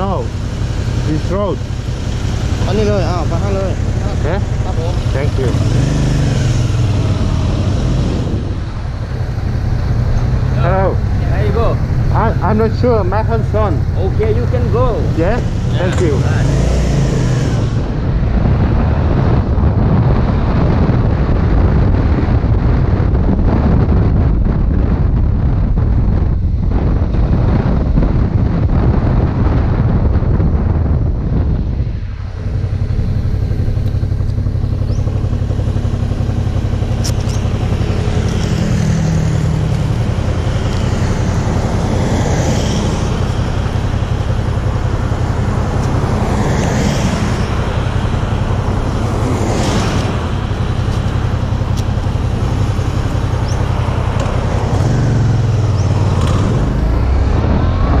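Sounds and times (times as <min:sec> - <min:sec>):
motorcycle engine: 0:00.0 - 0:58.0
vehicles passing by: 0:00.0 - 0:58.0
wind noise: 0:00.0 - 0:58.0.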